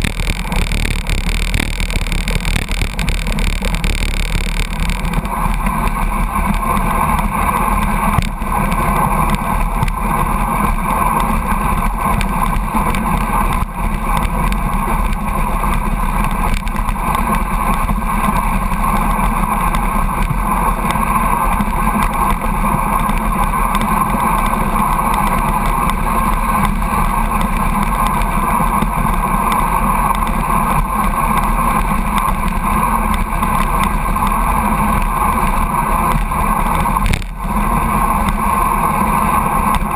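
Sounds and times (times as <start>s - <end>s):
truck running: 0.0s - 39.9s
wind and road noise: 0.0s - 39.9s.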